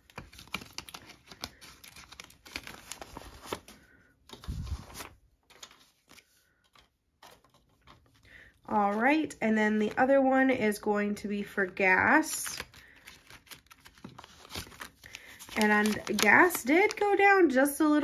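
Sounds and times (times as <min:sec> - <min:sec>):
paper banknotes rustling: 0:00.0 - 0:10.0, 0:11.4 - 0:17.2.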